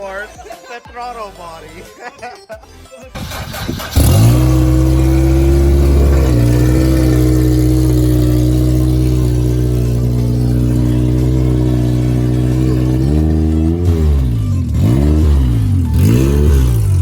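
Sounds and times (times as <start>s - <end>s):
car engine running and revving: 3.2s - 17.0s.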